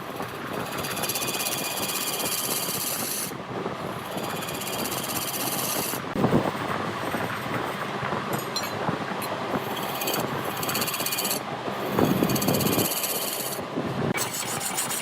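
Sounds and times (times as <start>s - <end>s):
lathe tool scraping spinning wood: 0.0s - 8.5s, 9.5s - 15.0s.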